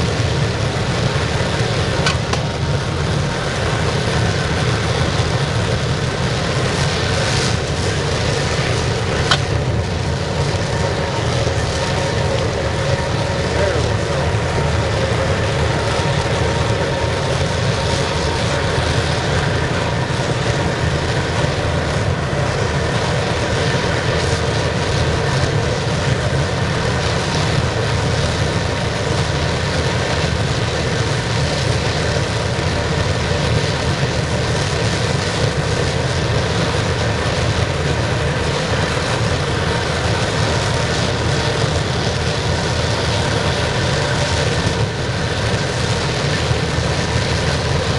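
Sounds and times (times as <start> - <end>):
furnace burner roaring: 0.0 - 47.9.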